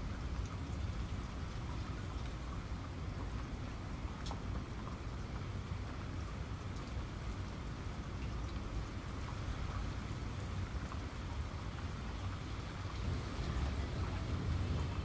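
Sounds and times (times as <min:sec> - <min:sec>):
rain-like hiss: 0:00.0 - 0:15.0.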